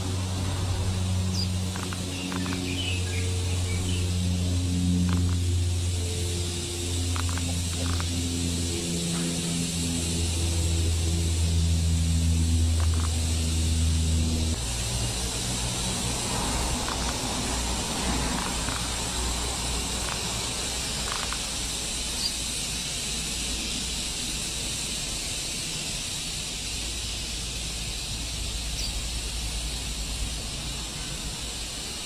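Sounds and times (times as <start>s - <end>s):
outdoor background hiss: 0.0s - 32.0s.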